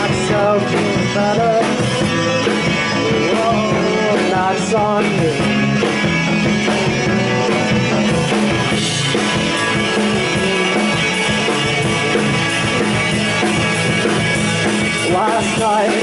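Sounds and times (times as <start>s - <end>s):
bass guitar: 0.0s - 16.0s
drum kit: 0.0s - 16.0s
electric guitars: 0.0s - 16.0s.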